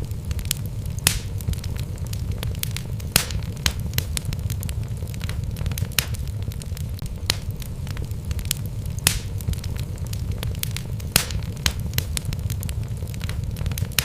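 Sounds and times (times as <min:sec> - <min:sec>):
fire rumbling: 0:00.0 - 0:14.0
wood crackling and popping: 0:00.0 - 0:14.0.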